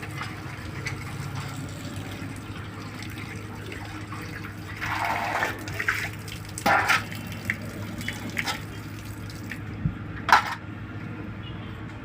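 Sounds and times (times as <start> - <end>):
water splashing: 0.0 - 9.7.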